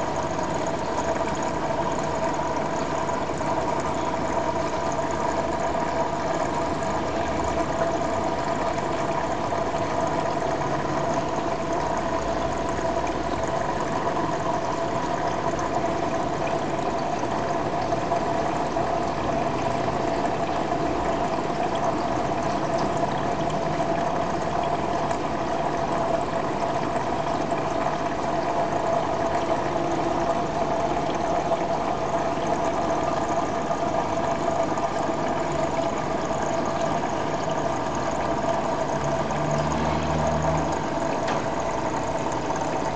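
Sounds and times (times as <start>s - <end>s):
aquarium pump humming: 0.0s - 42.9s.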